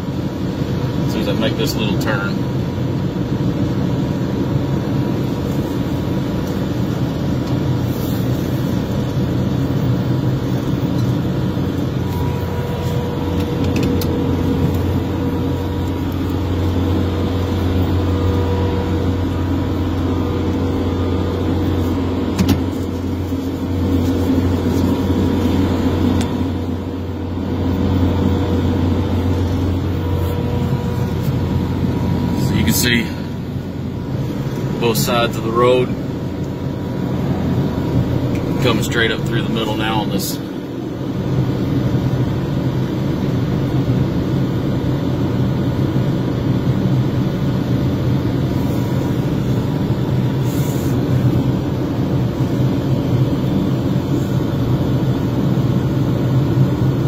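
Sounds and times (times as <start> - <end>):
steady whine: 0.0 - 57.0
truck engine drone: 0.0 - 57.0.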